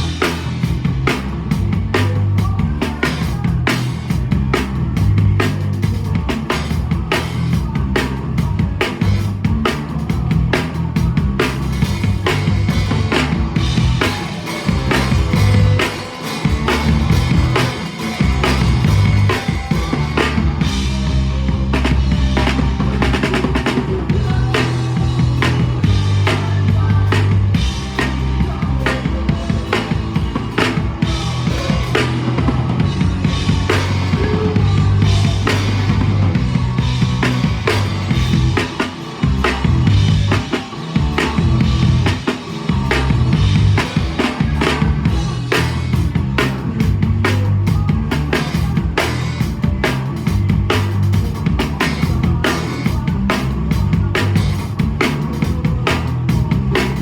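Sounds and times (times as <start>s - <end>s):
drum kit beat: 0.0s - 57.0s
live rock band: 0.0s - 57.0s.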